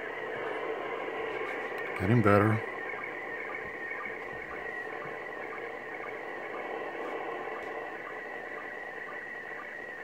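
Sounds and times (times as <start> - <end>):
low sync blips: 0.0 - 10.0
static hiss: 0.0 - 10.0
high-pitched image signal tones: 1.5 - 10.0.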